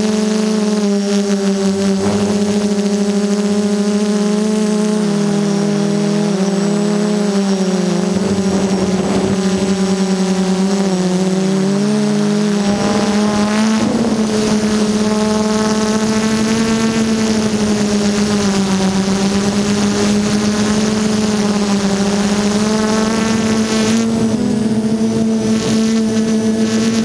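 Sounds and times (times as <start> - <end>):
drone motors and propellers droning: 0.0 - 27.0.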